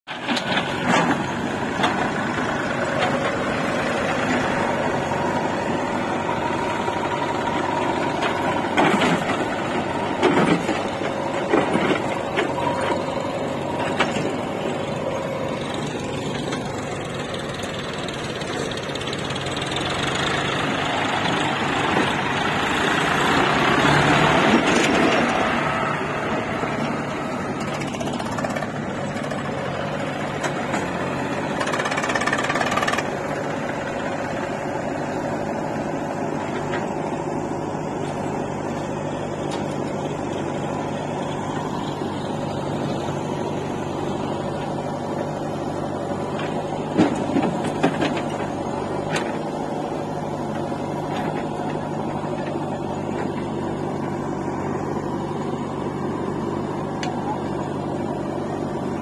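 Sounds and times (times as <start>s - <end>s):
backhoe digging soil: 0.1s - 59.0s
diesel engines running: 0.1s - 59.0s.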